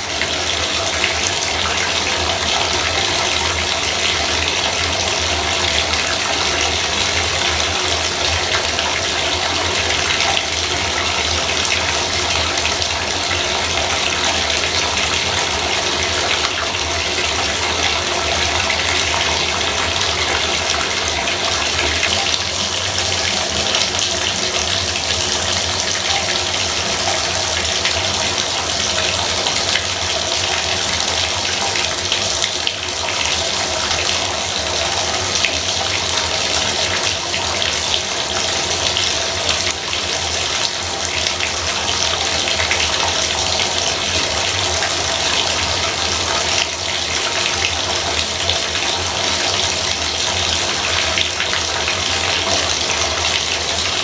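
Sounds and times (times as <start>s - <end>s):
faucet running water: 0.0s - 54.0s.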